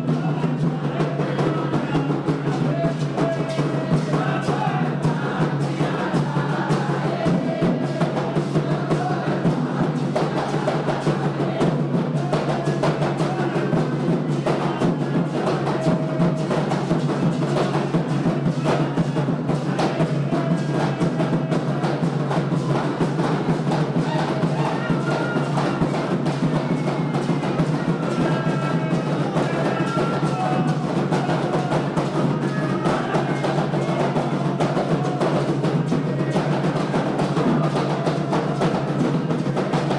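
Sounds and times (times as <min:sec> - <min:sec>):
hand drums playing: 0:00.0 - 0:39.9
voices singing: 0:00.0 - 0:39.9.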